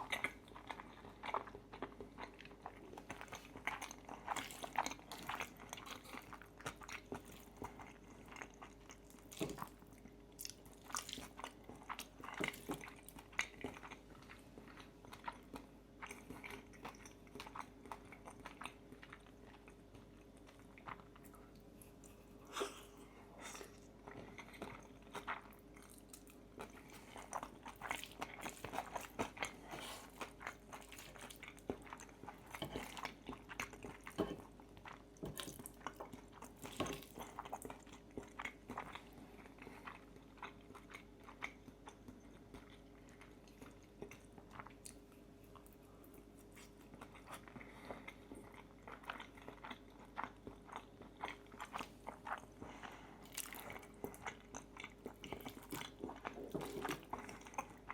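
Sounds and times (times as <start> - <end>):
wet chewing and crunching: 0.0 - 22.4, 23.4 - 57.9.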